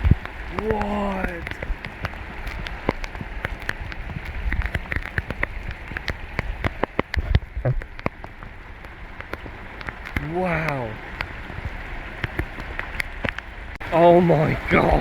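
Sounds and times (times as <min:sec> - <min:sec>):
large raindrops splatting: 0:00.0 - 0:15.0
torrential rain hissing: 0:00.0 - 0:15.0.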